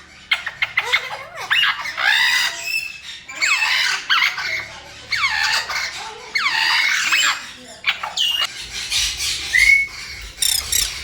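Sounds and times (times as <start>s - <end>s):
parrot squawking and squealing: 0.1s - 11.0s.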